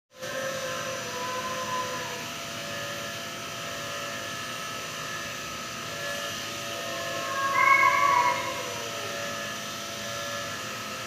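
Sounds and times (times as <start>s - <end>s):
mechanical hum with whir: 0.1s - 11.0s.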